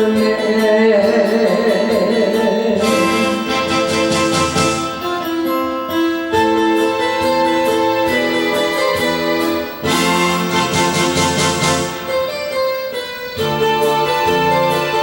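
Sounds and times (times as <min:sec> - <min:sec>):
karaoke band backing track: 0:00.0 - 0:15.0.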